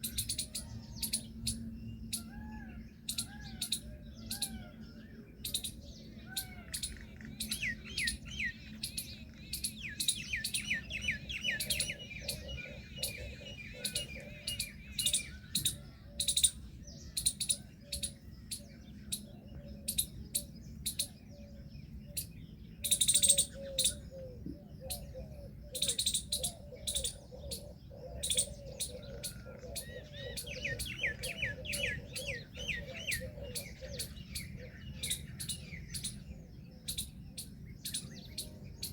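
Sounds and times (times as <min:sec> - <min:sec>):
birds chirping and calling: 0:00.0 - 0:38.9
low bird chatter: 0:00.0 - 0:38.9.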